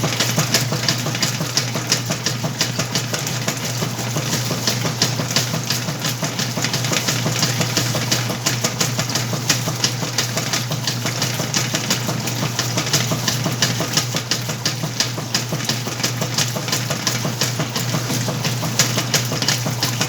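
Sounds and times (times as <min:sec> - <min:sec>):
short clicks and splashes: 0:00.0 - 0:20.0
washing machine motor hum: 0:00.0 - 0:20.0.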